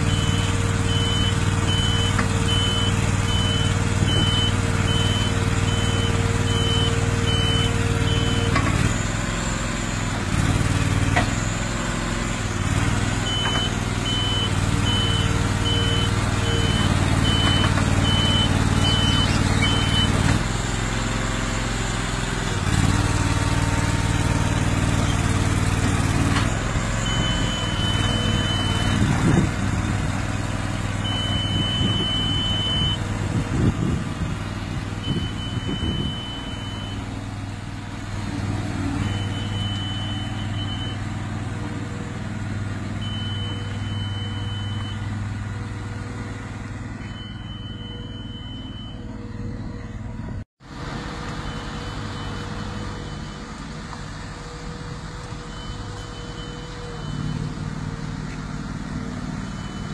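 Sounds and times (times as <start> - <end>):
tracked crawler motor running: 0.0 - 59.9.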